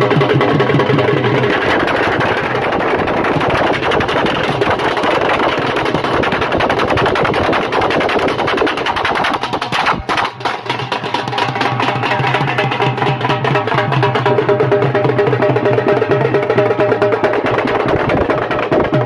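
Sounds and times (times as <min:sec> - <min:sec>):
barrel drums beaten fast: 0:00.0 - 0:19.0.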